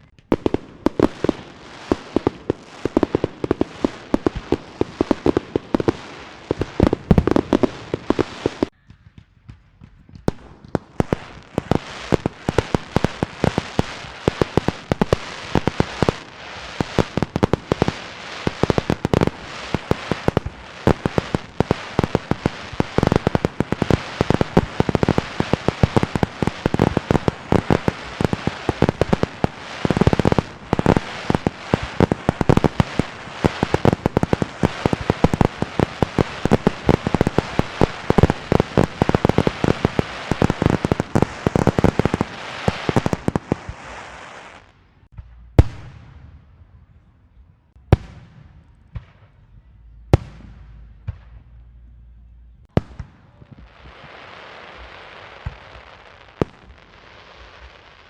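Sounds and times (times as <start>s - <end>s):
fireworks and firecrackers banging: 0.0s - 58.0s.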